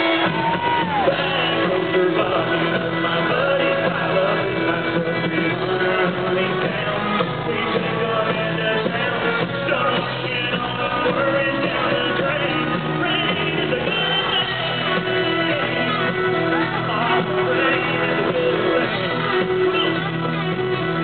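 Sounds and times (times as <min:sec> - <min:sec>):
live country-rock band: 0:00.0 - 0:21.0
people singing and shouting: 0:00.0 - 0:21.0.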